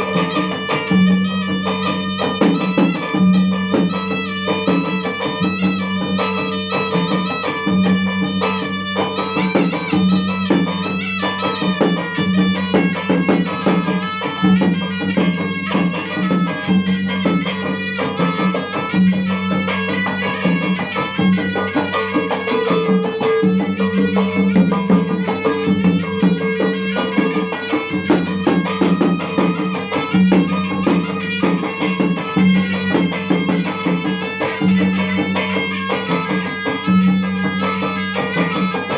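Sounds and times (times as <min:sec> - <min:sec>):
drums in fast rhythm: 0:00.0 - 0:38.9
reed wind instrument droning: 0:00.0 - 0:38.9.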